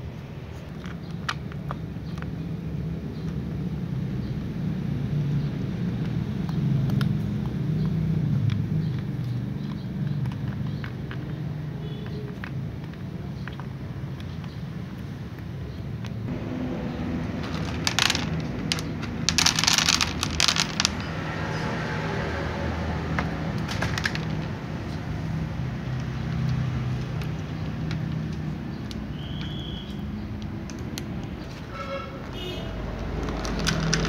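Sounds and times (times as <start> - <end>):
cats crunching dry kibble: 0.6 - 4.1, 5.8 - 21.5, 22.4 - 29.7, 32.9 - 34.0.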